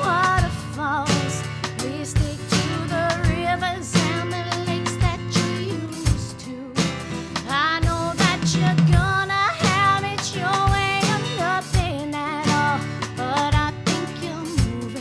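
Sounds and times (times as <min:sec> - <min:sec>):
drum beat: 0:00.0 - 0:15.0
guitar: 0:00.0 - 0:15.0
woman singing: 0:00.0 - 0:15.0.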